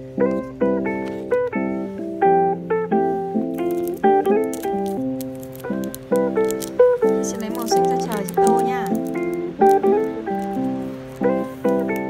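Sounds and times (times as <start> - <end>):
plucked acoustic guitar melody: 0.0 - 12.0.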